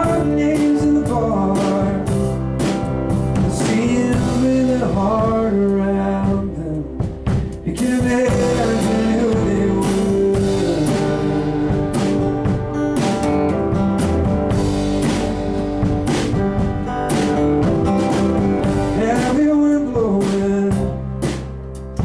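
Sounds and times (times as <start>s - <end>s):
drum strikes: 0.0s - 5.5s, 7.0s - 19.5s
bass: 0.0s - 22.0s
guitar: 0.0s - 22.0s.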